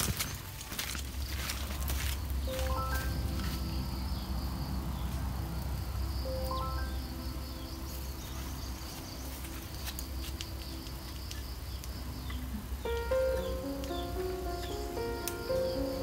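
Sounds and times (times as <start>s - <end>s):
insects chirping: 0.0s - 16.0s
soft background music: 0.0s - 16.0s.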